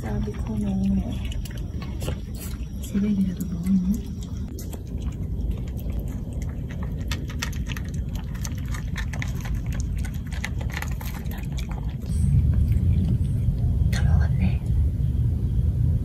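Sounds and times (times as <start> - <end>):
cat chewing wet food: 0.0 - 13.6
low rumble: 0.0 - 16.0.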